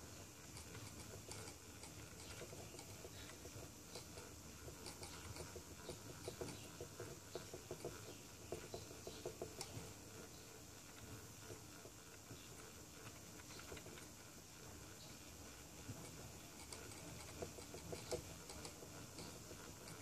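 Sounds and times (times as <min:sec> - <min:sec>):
faint irregular ticking: 0:00.0 - 0:20.0.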